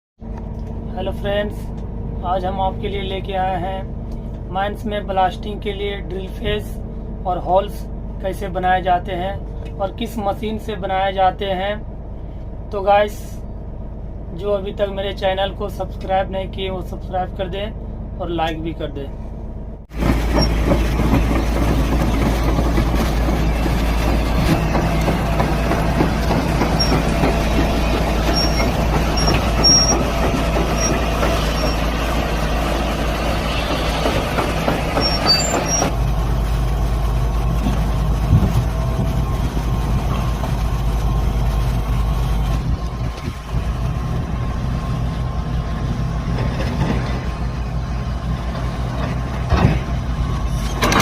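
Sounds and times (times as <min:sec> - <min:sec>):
diesel engine running: 0:00.2 - 0:51.0.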